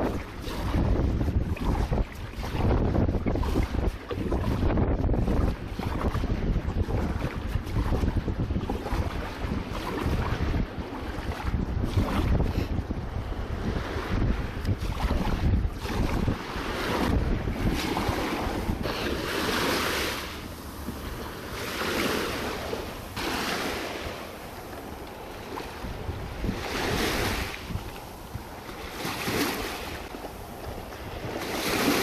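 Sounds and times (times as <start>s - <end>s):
sea water splashing: 0.0s - 32.0s
wind rumble on microphone: 0.0s - 32.0s.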